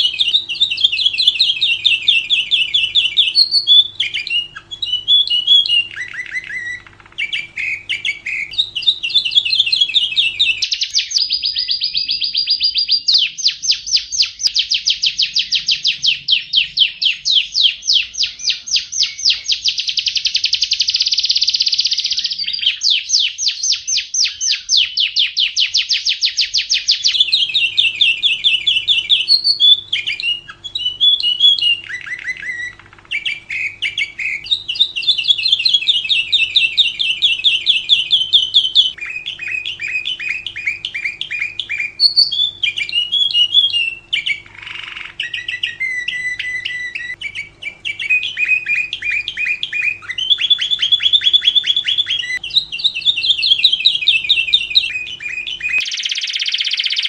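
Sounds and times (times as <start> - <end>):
faint steady hum: 0.0 - 55.9
lovebird chirping and trilling: 0.0 - 57.0.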